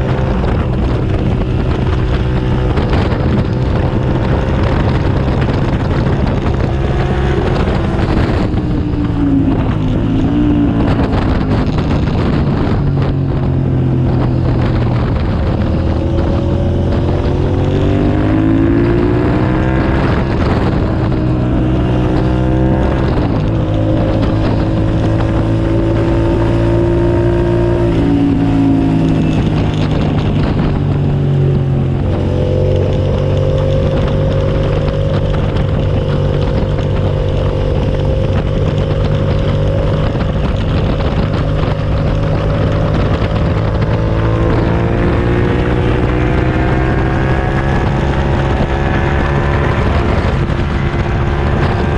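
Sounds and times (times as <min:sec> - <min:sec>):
motorcycle engine revving: 0:00.0 - 0:51.9
wind noise on microphone: 0:00.0 - 0:51.9.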